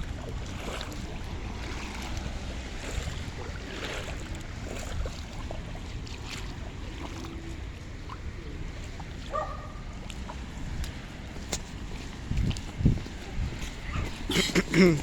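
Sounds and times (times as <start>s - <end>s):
wind rumbling on microphone: 0.0s - 14.4s
moving water: 0.0s - 15.0s
short water splashes: 0.0s - 15.0s.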